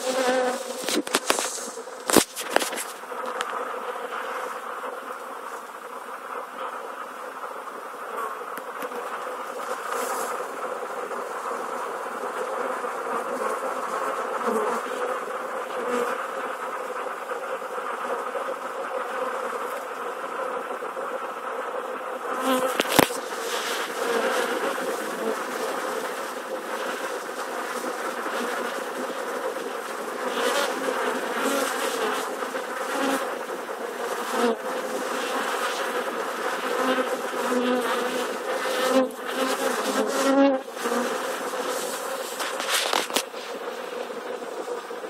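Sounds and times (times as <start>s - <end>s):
bee swarm buzzing: 0.0s - 45.0s.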